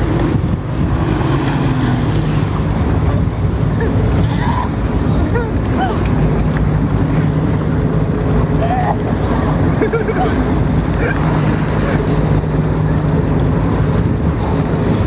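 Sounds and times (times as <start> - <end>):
rushing water: 0.0 - 15.0
watercraft engine running: 0.0 - 15.0
wind on microphone: 0.0 - 15.0.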